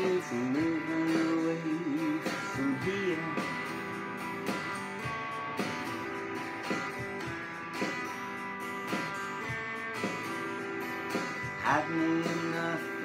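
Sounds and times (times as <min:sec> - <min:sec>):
drum machine beat: 0:00.0 - 0:13.0
electric guitar strumming chords: 0:00.0 - 0:13.0.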